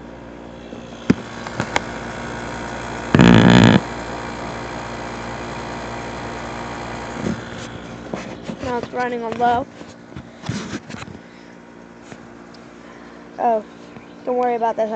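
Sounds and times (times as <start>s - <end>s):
air conditioner humming: 0.0s - 14.9s.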